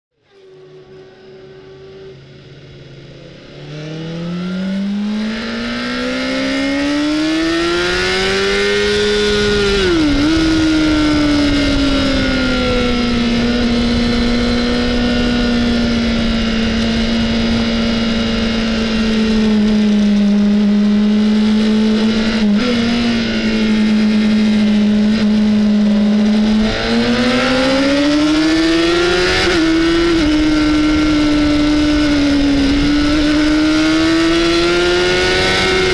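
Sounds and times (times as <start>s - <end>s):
motorcycle engine revving: 0.2s - 35.9s
wind noise: 3.7s - 35.9s.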